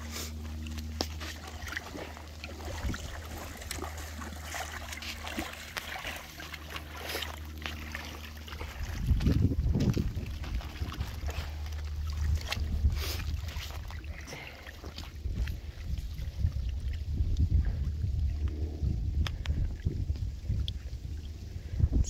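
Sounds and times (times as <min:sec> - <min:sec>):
low rumble: 0:00.0 - 0:22.0
river water trickling and lapping: 0:00.0 - 0:22.0
steady low hum: 0:00.0 - 0:22.0
small splashes: 0:00.1 - 0:21.8.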